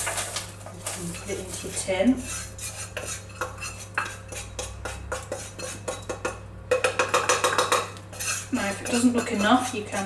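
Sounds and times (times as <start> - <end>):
spoon scraping and knocking on pan: 0.0 - 10.0.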